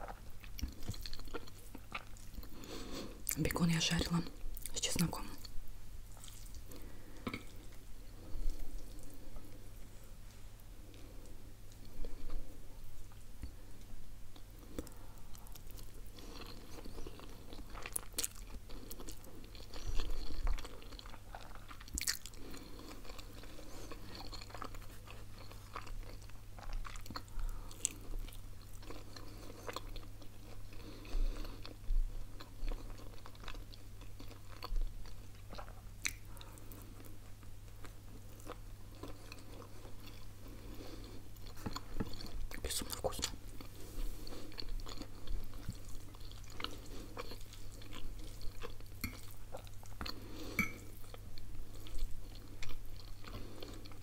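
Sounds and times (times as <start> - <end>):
person chewing: 0.0 - 3.5, 5.4 - 9.6, 10.8 - 54.0
faint low hum: 0.0 - 54.0.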